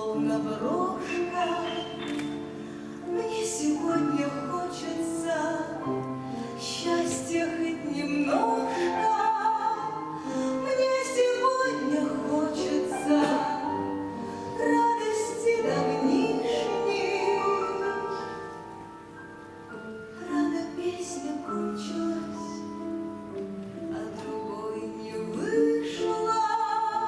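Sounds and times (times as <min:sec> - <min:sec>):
woman singing: 0:00.0 - 0:18.8, 0:20.1 - 0:23.1, 0:23.8 - 0:27.0
instrumental accompaniment: 0:00.0 - 0:26.6.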